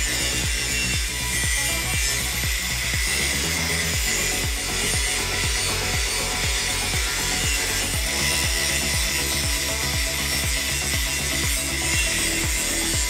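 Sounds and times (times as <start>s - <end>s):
angle grinder cutting metal: 0.0s - 13.0s
background music with beat: 0.0s - 13.0s.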